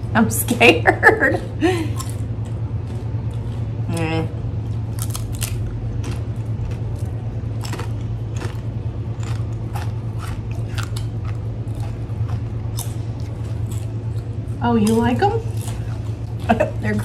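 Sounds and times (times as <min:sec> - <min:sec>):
low hum: 0:00.0 - 0:17.0
person crunching chips: 0:01.9 - 0:03.7, 0:04.7 - 0:17.0.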